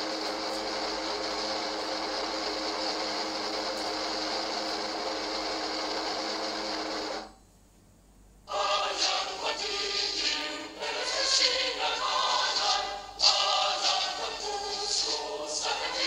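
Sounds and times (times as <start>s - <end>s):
mechanical whirring hum: 0.0s - 16.0s.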